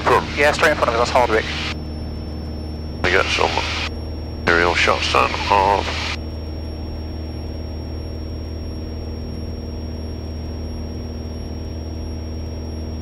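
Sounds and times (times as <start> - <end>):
light aircraft engine and propeller: 0.0 - 13.0
thin steady high tone: 0.0 - 13.0.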